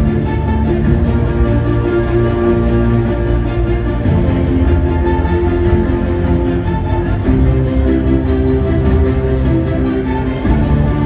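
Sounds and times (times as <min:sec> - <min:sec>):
loud music with deep bass: 0:00.0 - 0:11.0.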